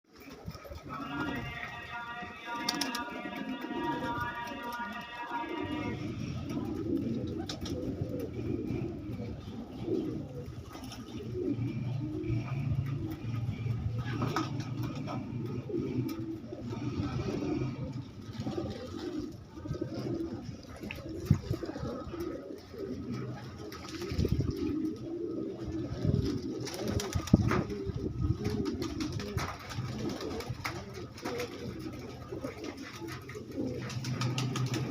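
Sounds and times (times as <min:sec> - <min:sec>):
pigeons cooing: 0:00.1 - 0:34.9.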